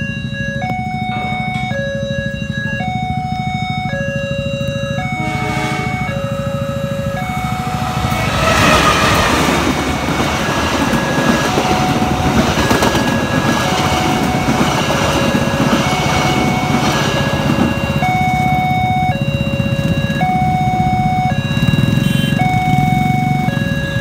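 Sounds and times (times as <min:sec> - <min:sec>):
train wheels rumbling on rails: 0:00.0 - 0:20.4
diesel locomotive engine: 0:00.0 - 0:24.0
level-crossing alarm tones: 0:00.0 - 0:24.0.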